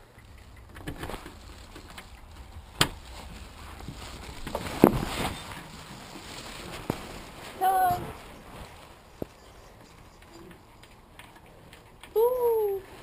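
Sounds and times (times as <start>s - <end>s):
coat rustling against camera: 0.3s - 11.1s.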